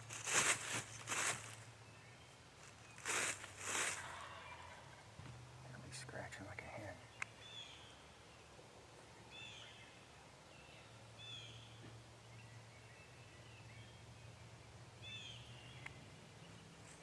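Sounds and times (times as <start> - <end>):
songbird chirps: 0.0 - 17.0.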